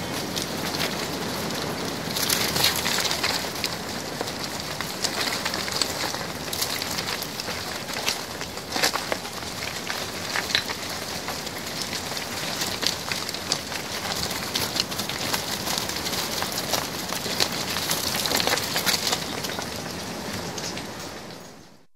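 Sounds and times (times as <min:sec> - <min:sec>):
sheep hooves clicking: 0:00.0 - 0:21.6
wind rustling trees: 0:00.0 - 0:21.9.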